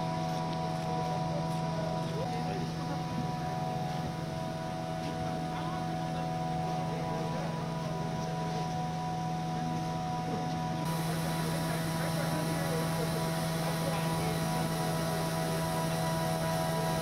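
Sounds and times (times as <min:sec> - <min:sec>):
faint voices murmuring: 0:00.0 - 0:17.0
steady low hum: 0:00.0 - 0:17.0.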